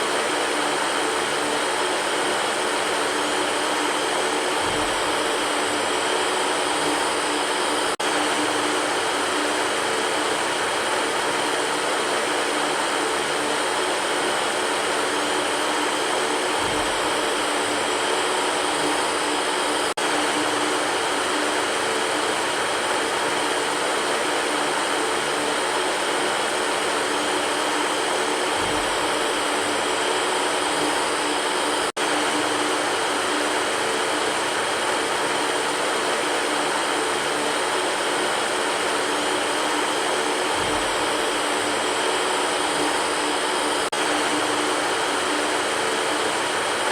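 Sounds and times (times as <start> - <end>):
electric fan running: 0.0 - 46.9.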